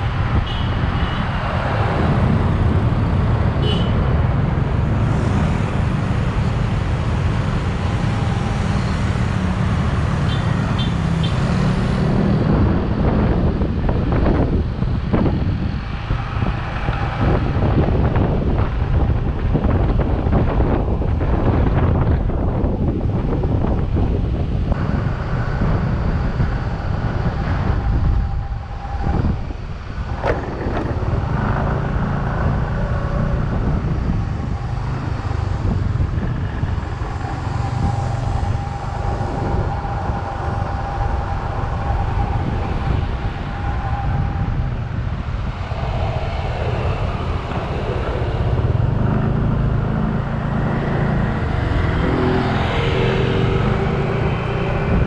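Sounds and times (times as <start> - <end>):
city traffic: 0.0 - 55.0.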